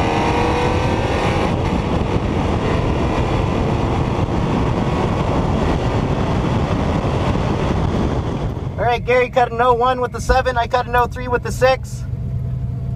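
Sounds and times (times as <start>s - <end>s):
car engine revving: 0.0s - 12.9s
wind and road noise: 0.0s - 12.9s.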